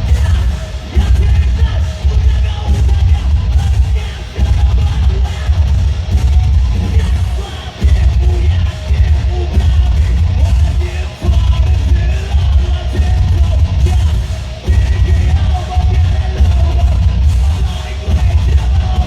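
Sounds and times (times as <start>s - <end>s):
live heavy rock band: 0.0s - 19.0s
pounding drums: 0.0s - 19.0s.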